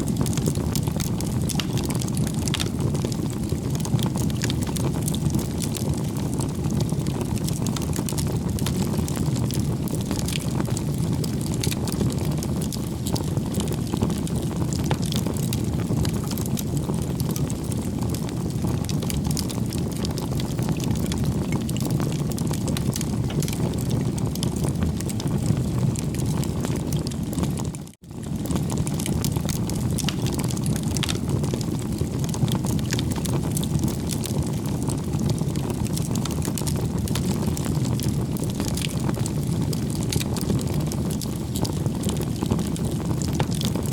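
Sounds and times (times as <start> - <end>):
burning wood crackling: 0.0 - 43.9
rumble of flame: 0.0 - 43.9
wood fire roaring: 0.0 - 43.9.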